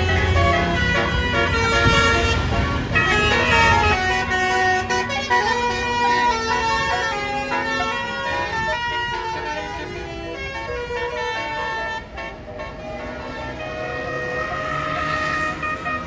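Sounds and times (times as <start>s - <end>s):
bus air horn playing a tune: 0.0s - 16.0s
bus engine rumble: 0.0s - 16.0s.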